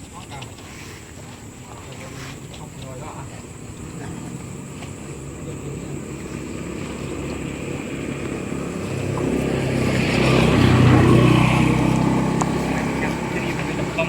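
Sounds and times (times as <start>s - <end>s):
small engine approaching: 0.0s - 14.0s.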